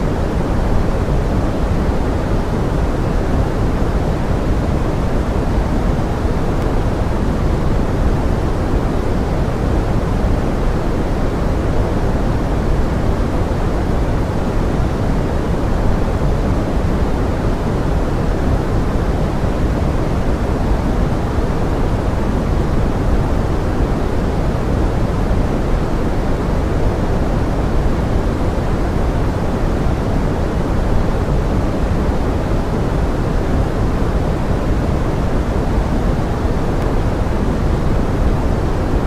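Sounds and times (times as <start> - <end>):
pink noise hiss: 0.0 - 39.0.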